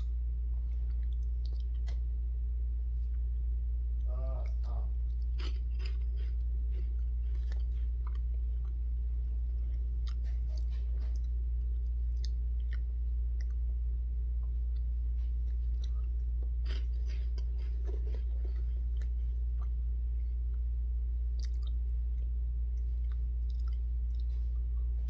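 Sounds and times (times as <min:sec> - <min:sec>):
chewing crunchy snacks: 0:00.0 - 0:02.3, 0:02.9 - 0:25.0
steady low hum: 0:00.0 - 0:25.0.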